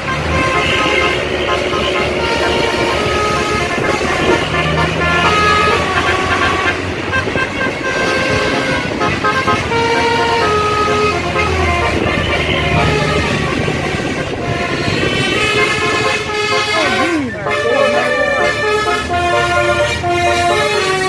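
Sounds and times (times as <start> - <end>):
bus engine running: 0.0 - 21.0
musical air horn playing a tune: 0.0 - 21.0.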